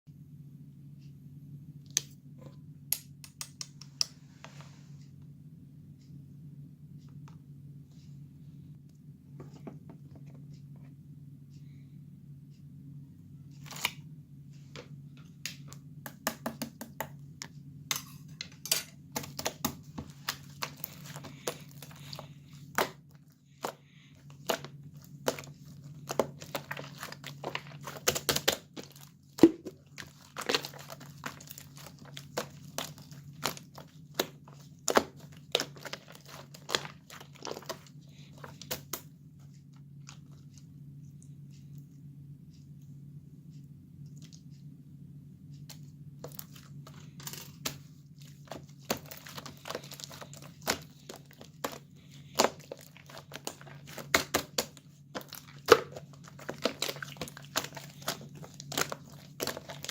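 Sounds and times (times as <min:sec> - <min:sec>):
low steady hum: 0:00.1 - 0:59.9.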